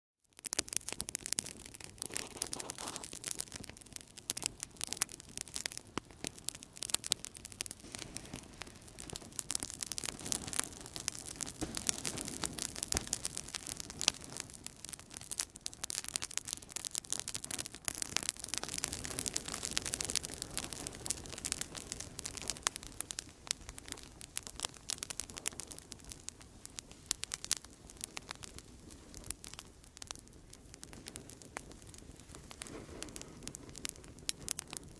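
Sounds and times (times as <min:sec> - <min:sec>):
campfire crackling and popping: 0:00.2 - 0:34.9
hiss of burning wood: 0:00.5 - 0:34.9.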